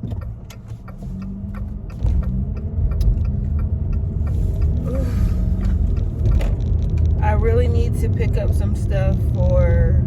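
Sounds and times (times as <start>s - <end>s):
engine and road rumble: 0.0s - 10.0s.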